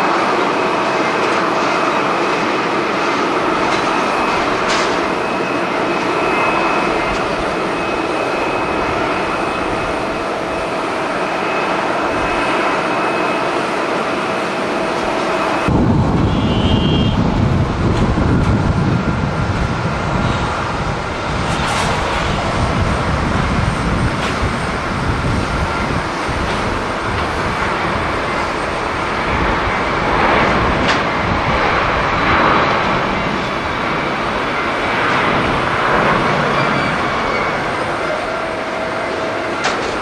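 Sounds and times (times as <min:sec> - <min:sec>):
jet engines at takeoff power: 0:00.0 - 0:40.0
wind buffeting microphone: 0:00.0 - 0:40.0.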